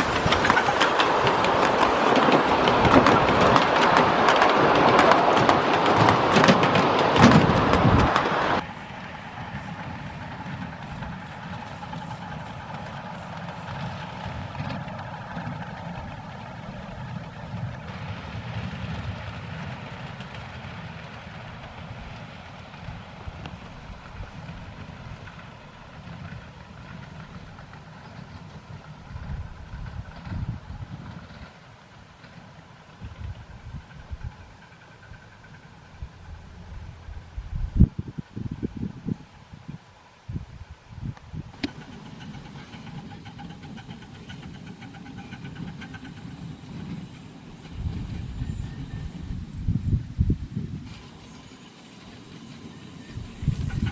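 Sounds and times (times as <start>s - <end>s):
model steam locomotive rumble: 0.0s - 53.9s
faint steam hiss: 8.1s - 53.9s.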